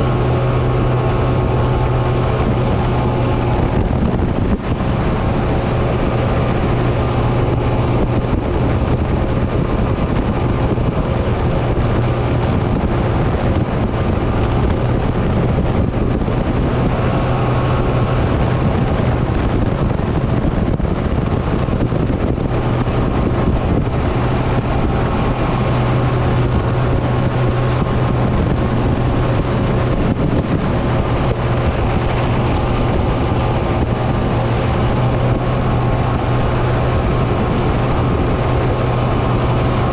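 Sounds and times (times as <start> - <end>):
boat engine droning: 0.0 - 39.9
wind buffeting microphone: 0.0 - 39.9.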